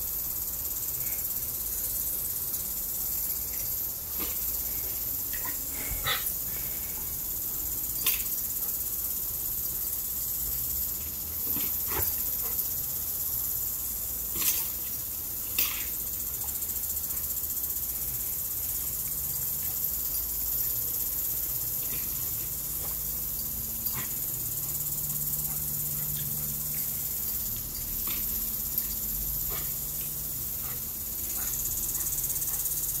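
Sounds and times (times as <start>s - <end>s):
high-pitched insect drone: 0.0s - 33.0s
lawn sprinkler spraying water: 0.0s - 33.0s.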